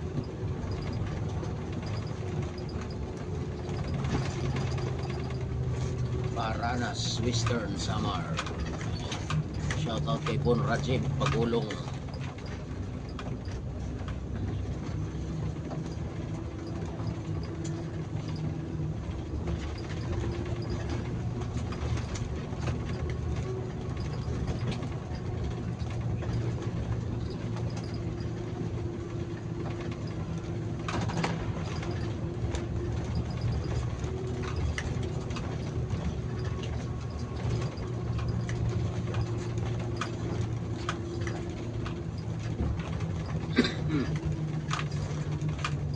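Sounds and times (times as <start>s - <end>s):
bus engine running: 0.0s - 45.9s
light clicks and rattles: 0.0s - 45.9s
road rumble: 0.0s - 45.9s.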